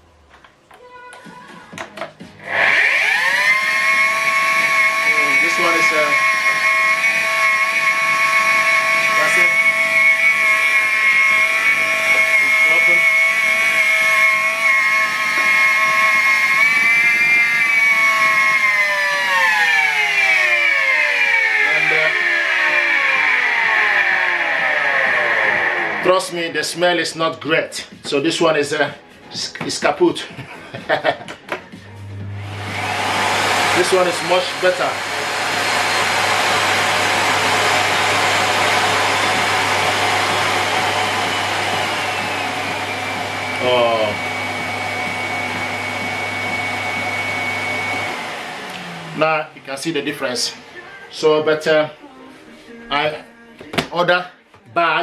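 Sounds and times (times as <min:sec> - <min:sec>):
vacuum cleaner motor whining: 0:01.7 - 0:26.6, 0:30.5 - 0:51.9.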